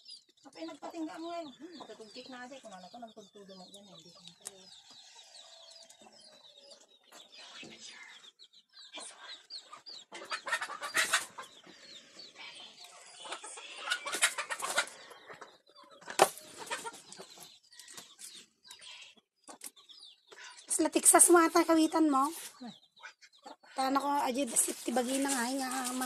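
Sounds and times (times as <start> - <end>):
chickens clucking and chirping: 0.0 - 26.0.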